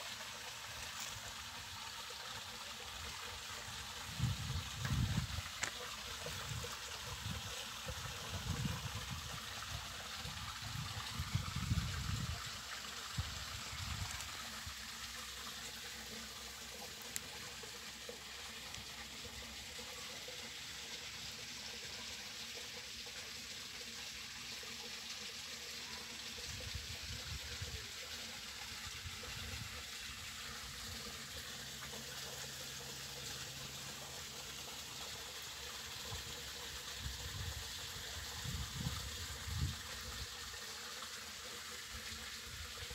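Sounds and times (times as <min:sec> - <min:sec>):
water running along furrow: 0:00.0 - 0:42.9.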